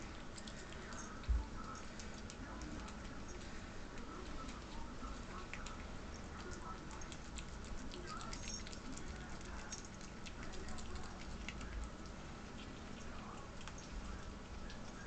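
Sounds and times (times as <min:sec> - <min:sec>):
ferret chewing and crunching: 0:00.0 - 0:15.0.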